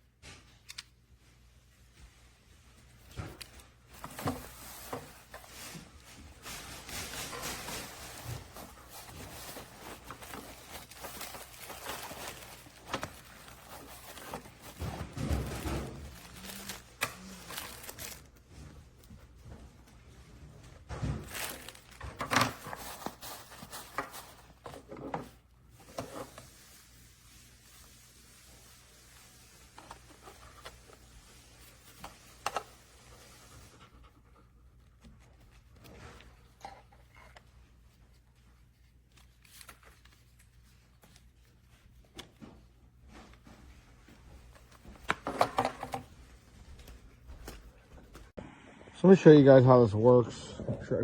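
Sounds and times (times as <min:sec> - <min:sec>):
rustling and crinkling: 0:00.0 - 0:48.4.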